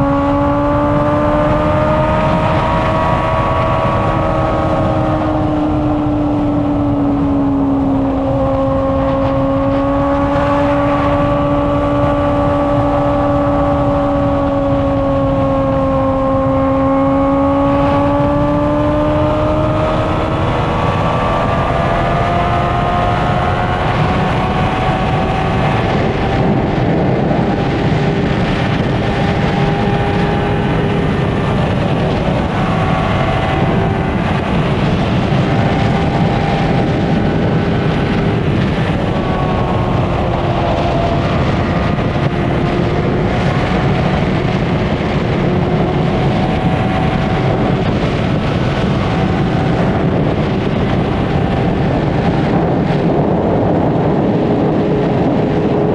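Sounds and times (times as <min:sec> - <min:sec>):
motorcycle engine at high rpm: 0:00.0 - 0:55.9
wind noise rushing: 0:00.0 - 0:55.9.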